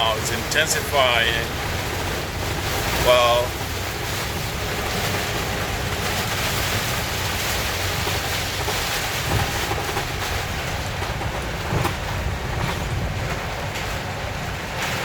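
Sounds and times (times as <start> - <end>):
car driving rumble: 0.0 - 15.0
heavy rain drumming on car roof: 0.0 - 15.0.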